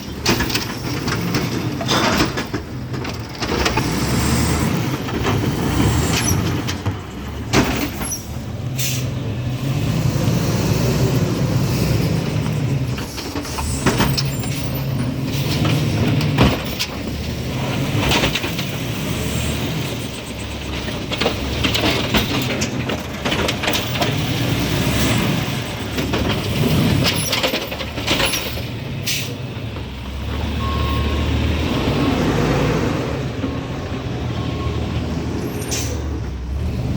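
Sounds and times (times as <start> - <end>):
diesel engine revving: 0.0 - 36.9.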